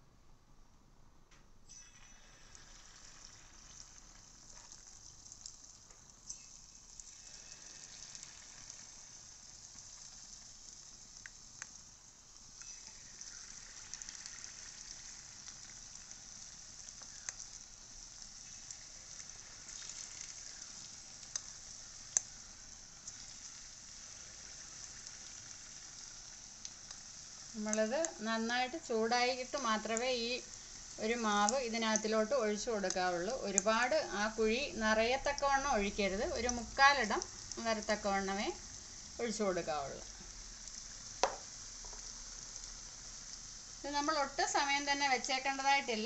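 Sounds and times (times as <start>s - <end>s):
batter sizzling in hot oil: 1.6s - 46.0s.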